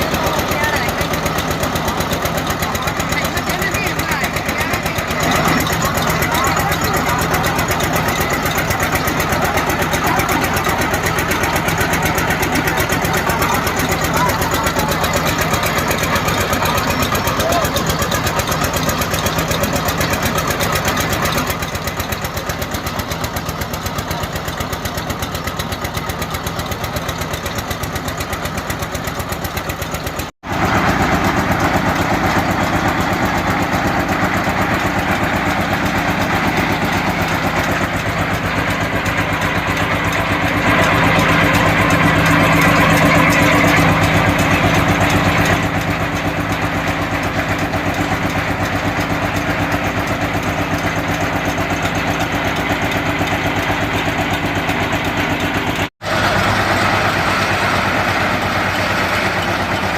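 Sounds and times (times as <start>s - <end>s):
drilling machine engine running: 0.0s - 59.9s.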